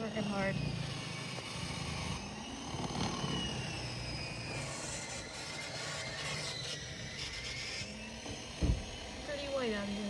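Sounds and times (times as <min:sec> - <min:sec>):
engine running steadily: 0:00.0 - 0:06.5, 0:07.2 - 0:10.0
faint whine drifting in pitch: 0:00.0 - 0:10.0.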